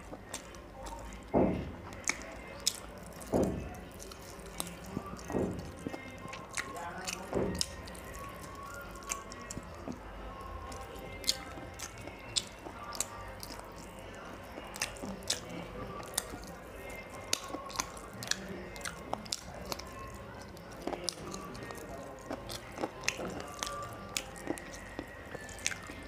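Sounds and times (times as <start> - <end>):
man chewing with mouth smacks: 0.0 - 26.0.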